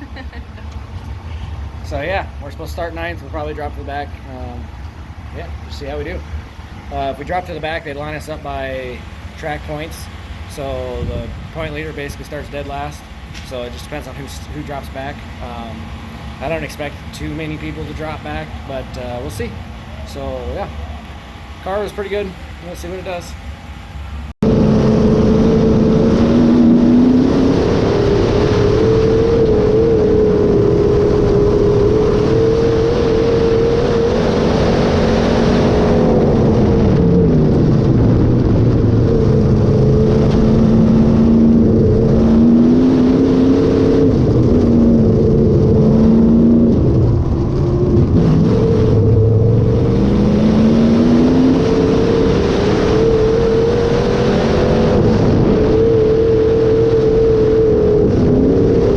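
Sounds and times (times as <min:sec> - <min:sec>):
race car engine revving: 0:00.0 - 0:23.6, 0:24.4 - 0:58.9.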